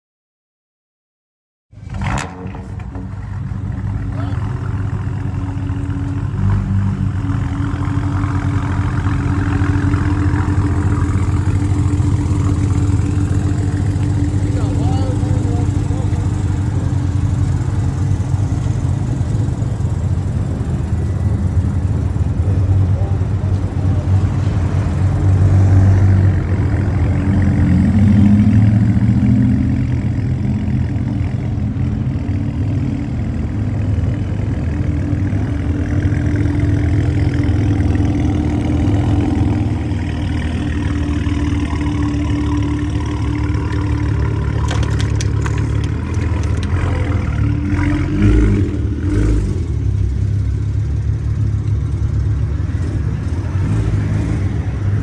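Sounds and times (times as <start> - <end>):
car engines idling: 1.8 - 55.0.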